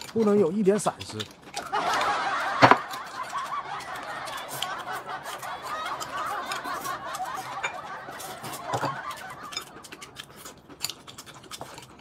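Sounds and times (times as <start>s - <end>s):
noodle slurping: 1.1s - 12.0s.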